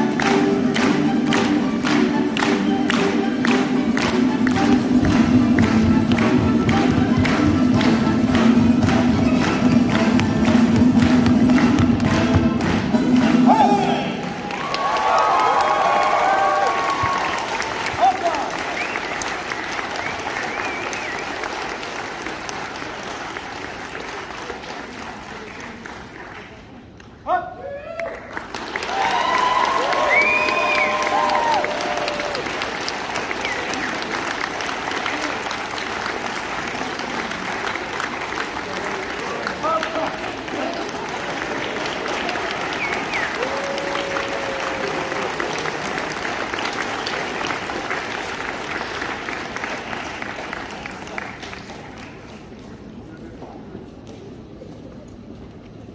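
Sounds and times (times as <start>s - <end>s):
audience applauding: 0.0s - 27.0s, 28.0s - 52.7s.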